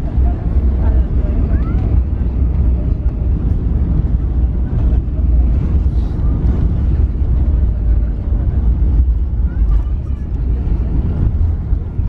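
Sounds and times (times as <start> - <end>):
airliner engines and wheels rumbling: 0.0 - 12.0.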